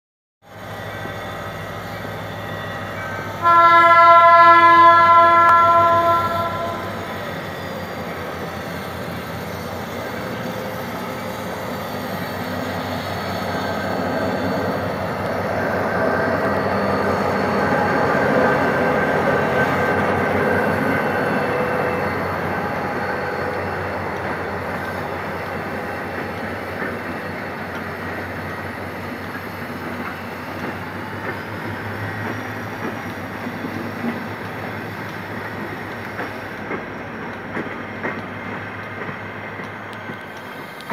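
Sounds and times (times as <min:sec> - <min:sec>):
diesel locomotive engine under load: 0:00.4 - 0:40.9
train wheels clicking over rail joints: 0:06.9 - 0:40.9.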